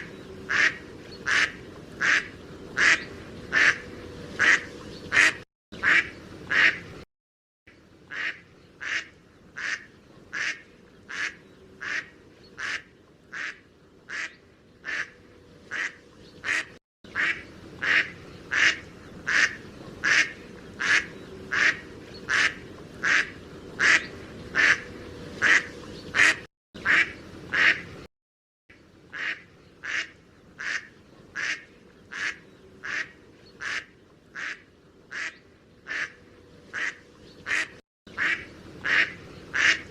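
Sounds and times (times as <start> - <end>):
duck quacking: 0.5 - 3.8, 4.4 - 6.9, 8.1 - 24.8, 25.4 - 27.9, 29.1 - 39.9.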